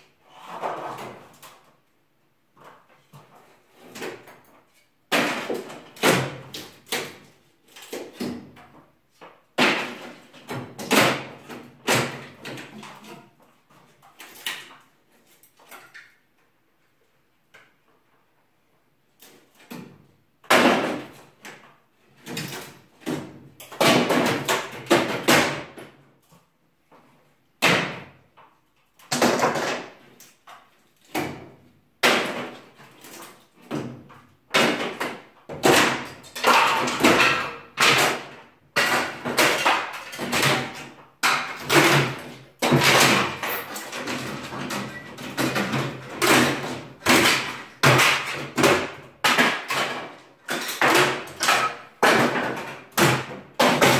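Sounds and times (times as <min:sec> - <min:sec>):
wooden boards banging and clattering: 0:02.6 - 0:16.2, 0:19.2 - 0:26.0, 0:26.9 - 0:53.9.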